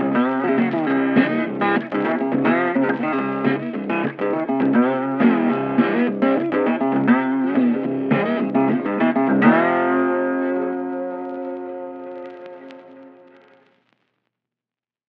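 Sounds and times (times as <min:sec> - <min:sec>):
blues lead guitar: 0:00.0 - 0:13.6.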